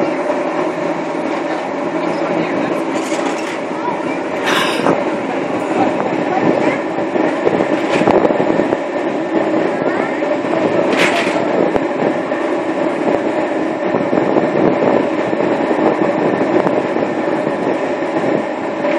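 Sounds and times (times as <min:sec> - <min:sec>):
ship engines rumbling and humming: 0:00.0 - 0:18.9.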